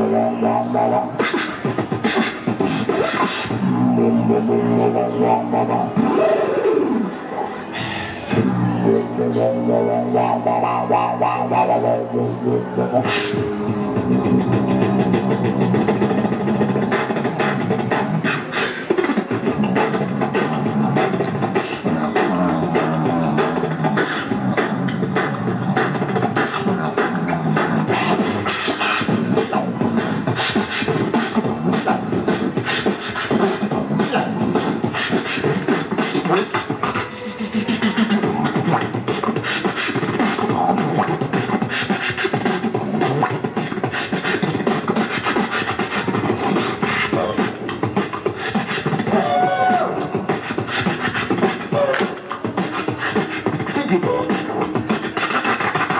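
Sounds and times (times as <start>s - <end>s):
beatboxing into microphone: 0.0s - 55.9s.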